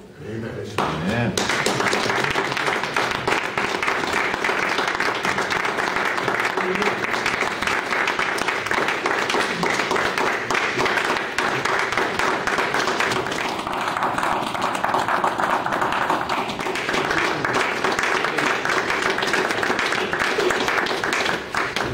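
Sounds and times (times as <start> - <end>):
audience applauding: 1.4 - 21.9.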